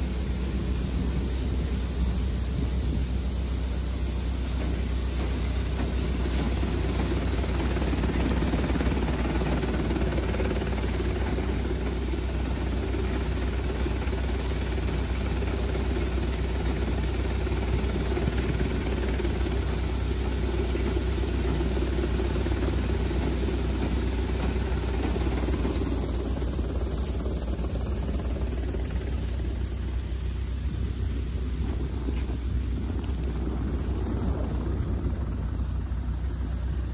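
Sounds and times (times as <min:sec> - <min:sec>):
engine humming: 0:00.0 - 0:36.9
thresher rushing noise: 0:00.0 - 0:36.9.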